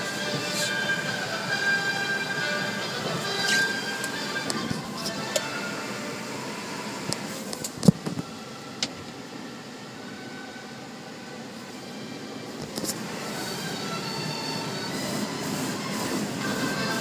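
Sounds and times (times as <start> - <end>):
mechanical whirring hum: 0.0 - 17.0.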